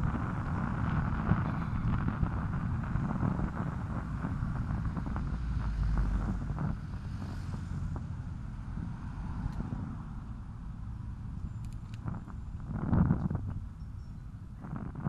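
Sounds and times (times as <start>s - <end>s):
low road rumble: 0.0s - 15.0s
wind buffeting microphone: 0.0s - 15.0s.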